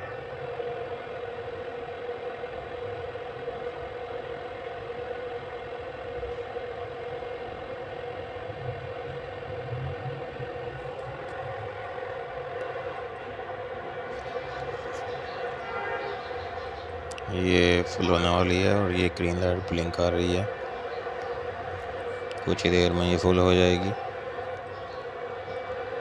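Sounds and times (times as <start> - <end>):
charger cooling fan whirring: 0.0 - 26.0.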